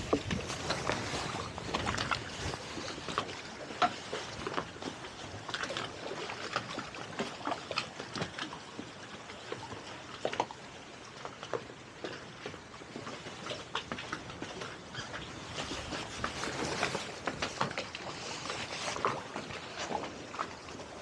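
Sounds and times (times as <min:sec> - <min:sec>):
water slapping against boat hull: 0:00.0 - 0:21.0.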